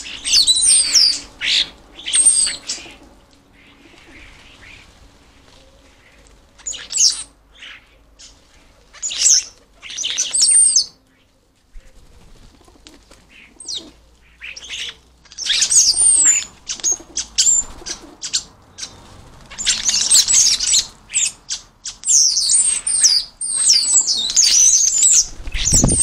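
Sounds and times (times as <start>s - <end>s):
wings flapping: 0.0s - 10.9s, 11.7s - 21.6s, 24.0s - 26.0s
starlings squawking: 0.0s - 12.1s, 13.2s - 26.0s.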